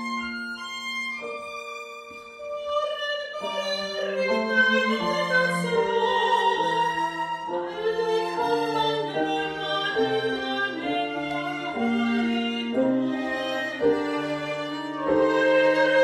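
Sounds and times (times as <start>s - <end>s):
piano: 0.0s - 16.0s
soprano singing: 0.0s - 16.0s
viola and cello: 0.0s - 16.0s.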